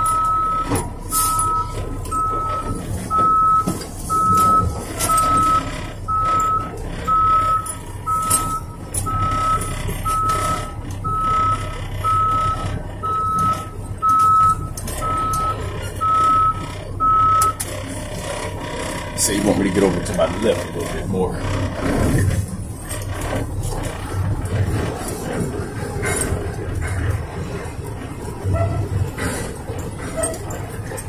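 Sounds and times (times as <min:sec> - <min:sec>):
truck engine running: 0:00.0 - 0:31.0
truck reverse alarm beeping: 0:00.0 - 0:31.0.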